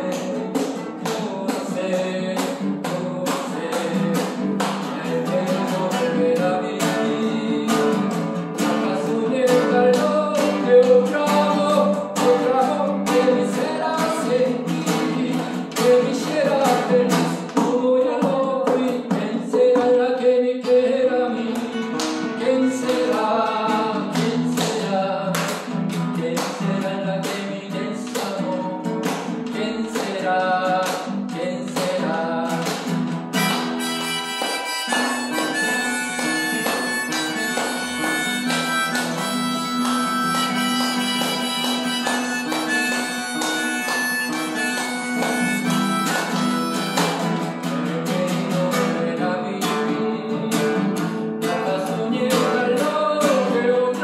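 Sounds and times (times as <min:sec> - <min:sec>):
classical guitar strumming: 0:00.0 - 0:54.0.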